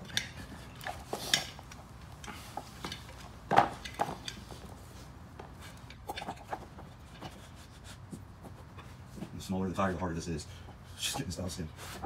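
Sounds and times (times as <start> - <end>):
light knocks and rubbing on tire: 0.0 - 12.0.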